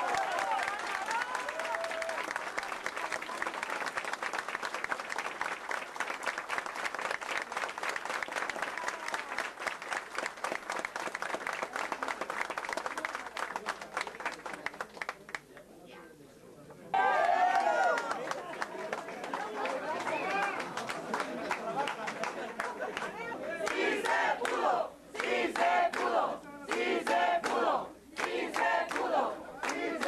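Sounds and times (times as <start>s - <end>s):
crowd applauding: 0.0s - 15.4s, 16.9s - 24.6s, 28.2s - 30.0s.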